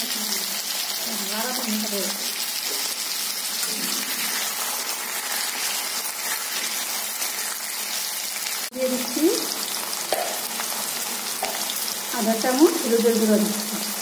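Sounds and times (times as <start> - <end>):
potatoes sizzling in hot oil: 0.0 - 14.0.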